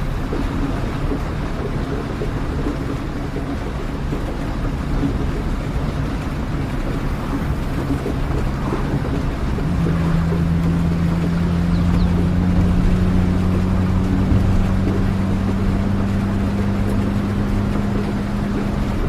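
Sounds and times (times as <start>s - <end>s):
steady rain: 0.0s - 19.0s
vehicle engine drone: 0.0s - 19.0s.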